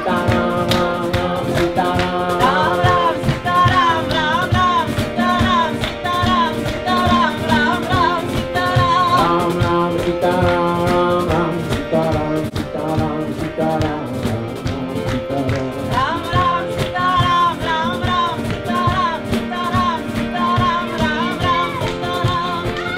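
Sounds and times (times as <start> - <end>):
acoustic guitar: 0.0 - 22.9
person singing: 0.0 - 22.9
steady drum beat: 0.0 - 22.9.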